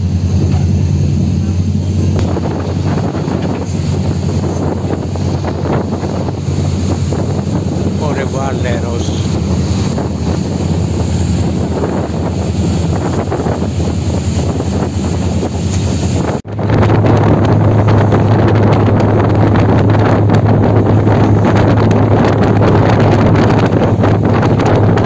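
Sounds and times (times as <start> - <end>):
ferry engines droning: 0.0 - 25.0
wake rushing: 0.0 - 25.0
wind buffeting microphone: 0.0 - 25.0.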